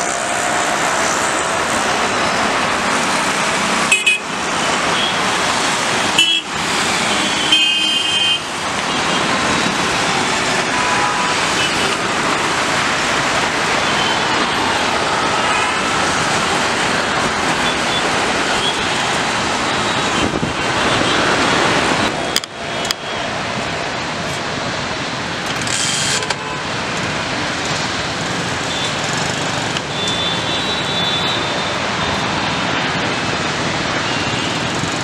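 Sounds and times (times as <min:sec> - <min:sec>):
dense road traffic: 0:00.0 - 0:35.0.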